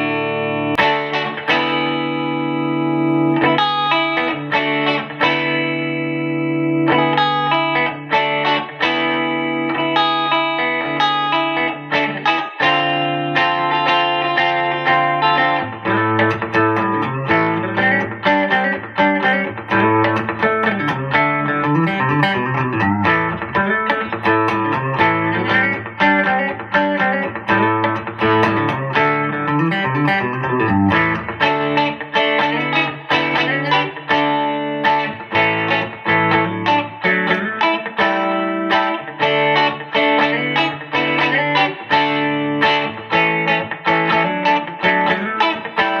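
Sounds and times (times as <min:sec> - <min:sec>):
electric guitar notes and chords: 0:00.0 - 0:46.0.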